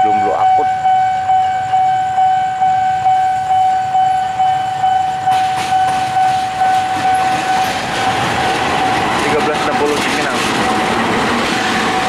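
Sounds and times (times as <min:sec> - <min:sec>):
level crossing warning bell: 0:00.0 - 0:11.0
train rumbling past: 0:00.0 - 0:12.0.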